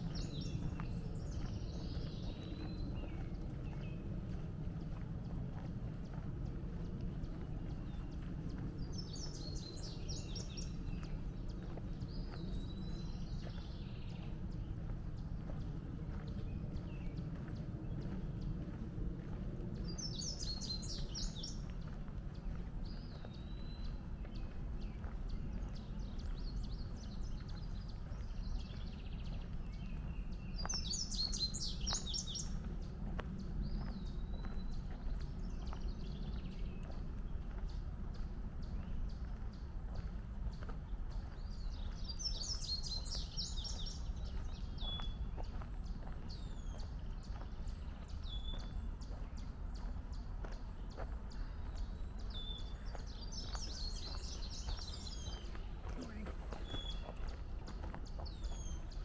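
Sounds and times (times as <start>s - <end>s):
songbird singing: 0.0s - 59.0s
steady low rumble: 0.0s - 59.0s
walking footsteps on trail: 0.0s - 59.0s.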